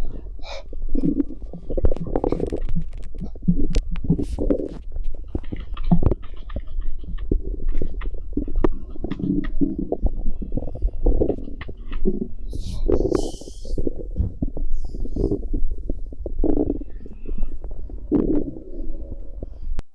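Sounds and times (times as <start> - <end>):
stomach gurgles: 0.0 - 19.9.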